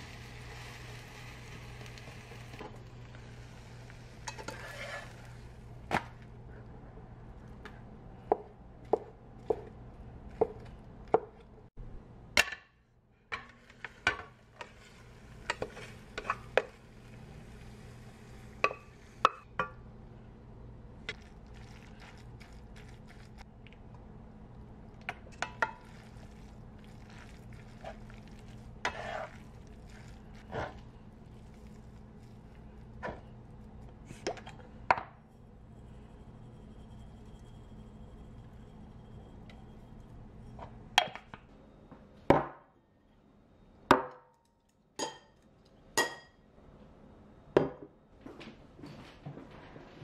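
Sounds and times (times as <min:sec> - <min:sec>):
steady low hum: 0:00.0 - 0:42.3.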